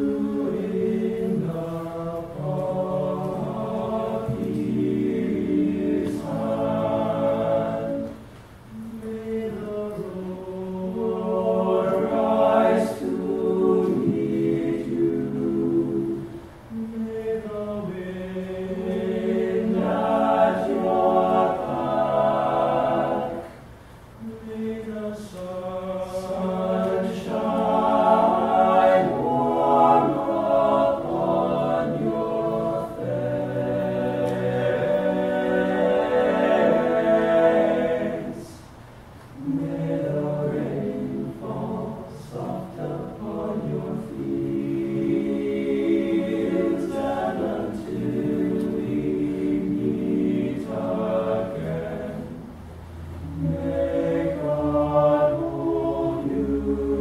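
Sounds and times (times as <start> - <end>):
male a cappella group singing: 0.0 - 38.8, 39.4 - 57.0.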